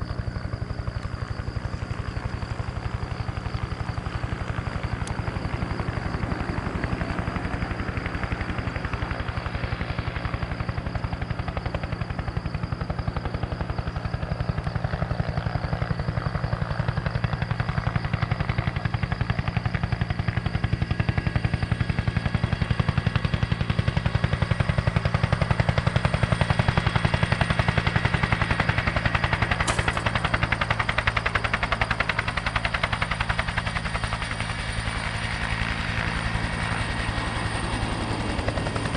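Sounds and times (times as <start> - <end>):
helicopter rotor beating: 0.0 - 38.9
turbine engine whine: 0.0 - 38.9.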